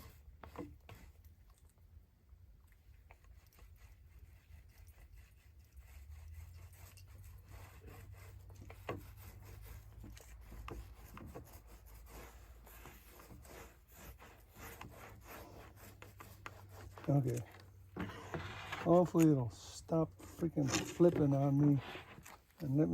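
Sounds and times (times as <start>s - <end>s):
hand rubbing and scraping: 0.0s - 1.8s, 2.7s - 22.9s.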